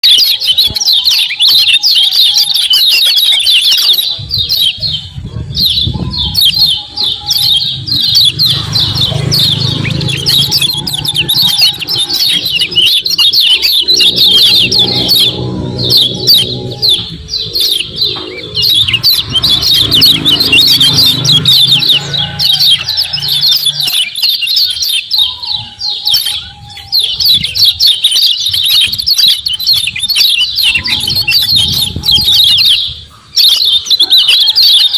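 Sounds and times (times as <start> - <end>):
bird chattering chirps: 0.0 - 34.9.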